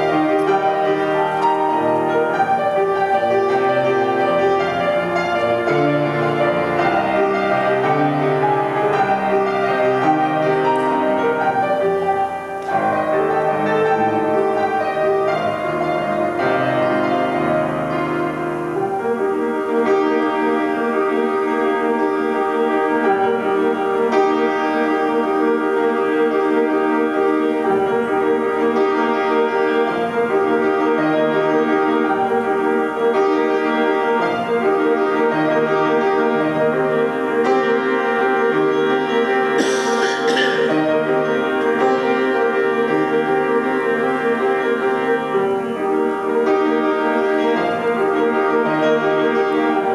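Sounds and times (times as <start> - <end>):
grand piano playing: 0.0 - 49.9.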